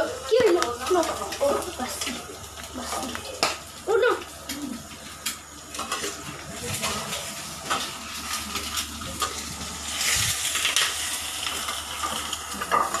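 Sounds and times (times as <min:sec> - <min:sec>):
egg sizzling in hot oil: 0:00.0 - 0:13.0.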